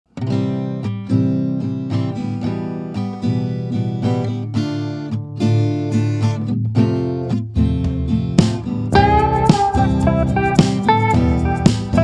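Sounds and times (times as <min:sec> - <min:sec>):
strummed acoustic guitar: 0:00.1 - 0:12.0.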